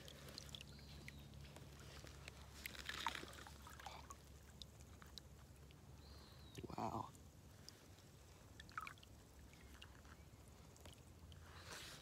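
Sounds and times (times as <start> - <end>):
faint water sounds: 0.0 - 12.0.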